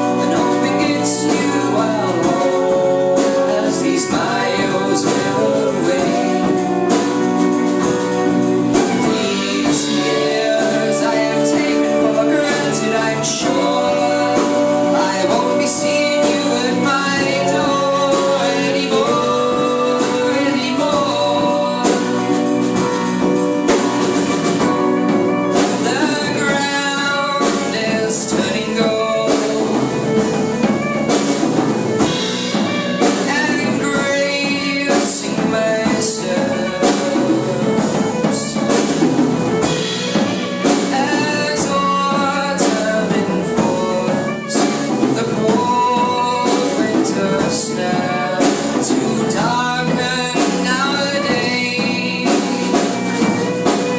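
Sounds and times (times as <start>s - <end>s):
folk band playing: 0.0s - 53.9s
person singing: 0.0s - 53.9s.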